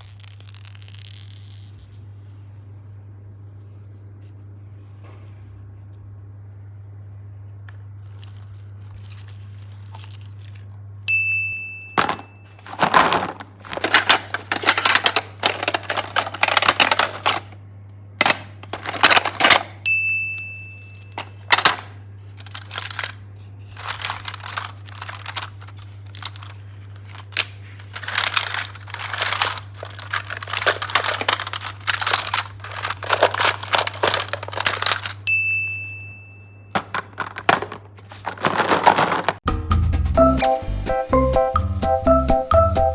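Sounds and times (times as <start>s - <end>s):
low steady hum: 0.0s - 39.4s.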